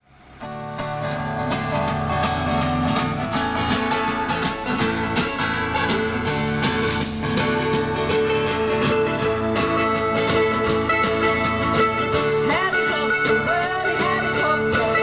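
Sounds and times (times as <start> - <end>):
band playing with strummed guitars: 0.2 - 15.0.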